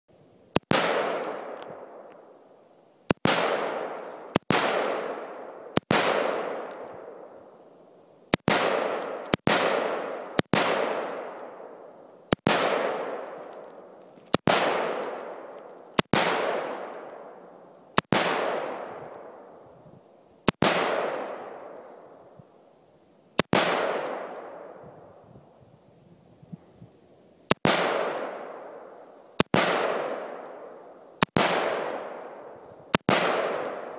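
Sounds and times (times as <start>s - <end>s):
rifle shots with echo: 0.6s - 2.4s, 3.1s - 7.6s, 8.3s - 19.6s, 20.5s - 22.3s, 23.4s - 24.9s, 27.5s - 33.9s.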